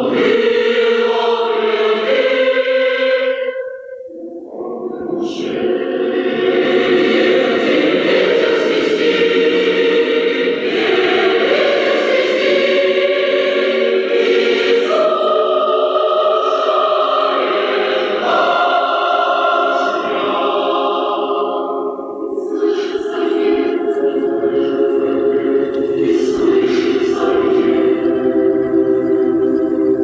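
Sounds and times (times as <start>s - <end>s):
a cappella choir singing: 0.0s - 30.0s.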